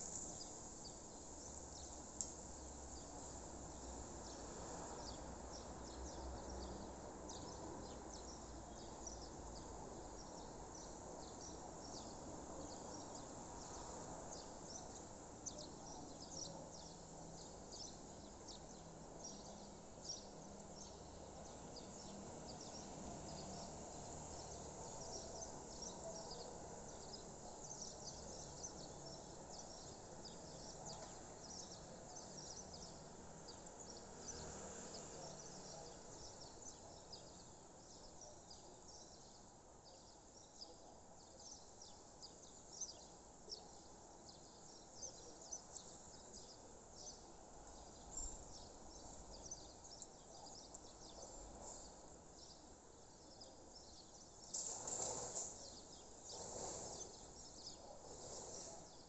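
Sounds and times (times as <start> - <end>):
soft steady hiss: 0.0 - 59.0.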